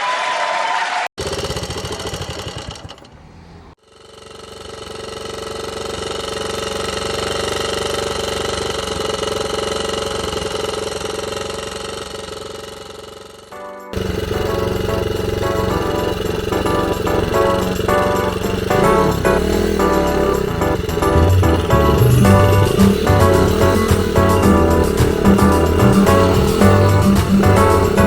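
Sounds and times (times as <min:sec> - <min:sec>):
motorcycle engine running: 0:01.2 - 0:28.0.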